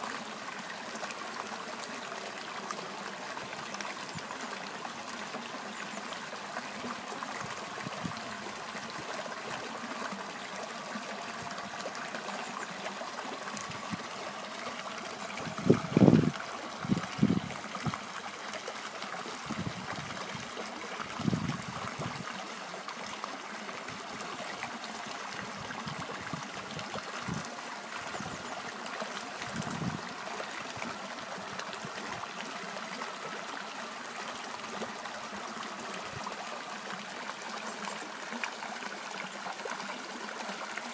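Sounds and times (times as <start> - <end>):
running water flowing: 0.0 - 40.9.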